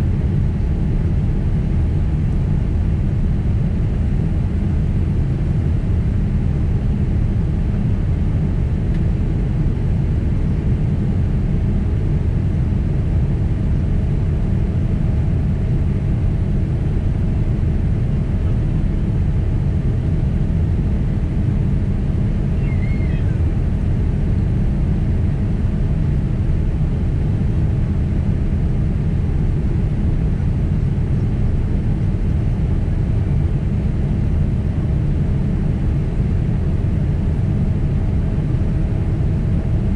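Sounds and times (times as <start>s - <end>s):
faint steady hum: 0.0s - 39.9s
jet engine and airflow rumble: 0.0s - 39.9s.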